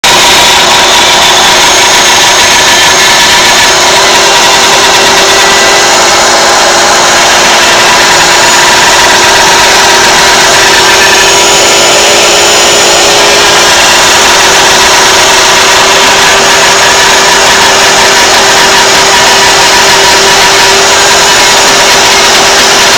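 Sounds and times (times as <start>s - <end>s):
cutting wood: 0.0s - 22.9s
router spindle whine: 0.0s - 22.9s.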